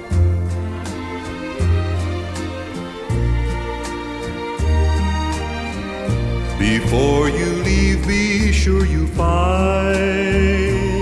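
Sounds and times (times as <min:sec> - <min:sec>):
slow country ballad instrumental: 0:00.0 - 0:11.0.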